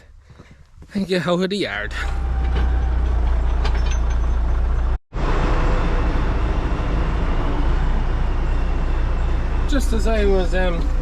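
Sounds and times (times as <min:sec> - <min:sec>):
tractor engine droning: 0:01.7 - 0:11.0.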